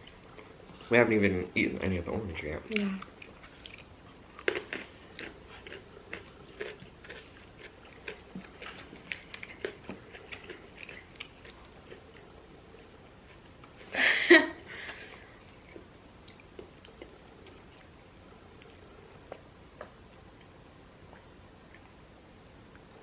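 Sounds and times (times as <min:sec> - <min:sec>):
chewing and crunching food: 0:00.0 - 0:13.9, 0:14.6 - 0:22.0.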